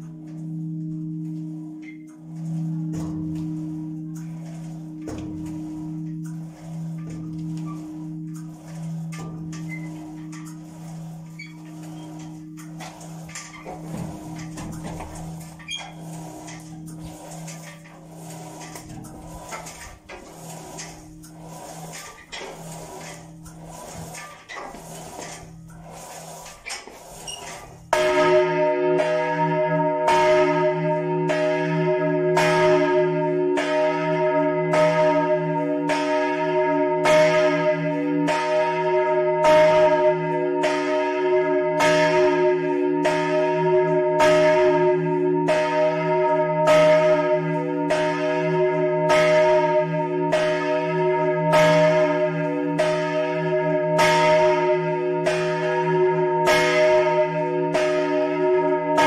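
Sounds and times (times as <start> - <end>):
large church bell pealing: 0.0 - 59.0.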